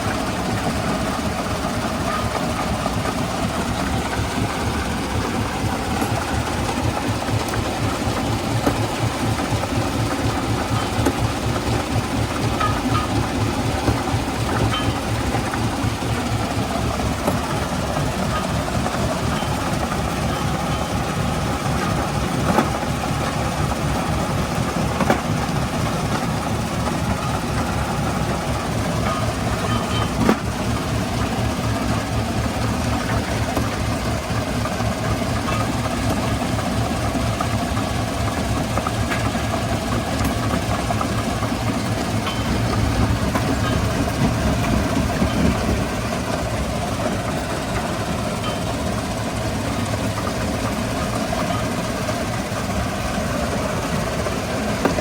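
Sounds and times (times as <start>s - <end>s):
stone crushing machinery rumble: 0.0s - 55.0s.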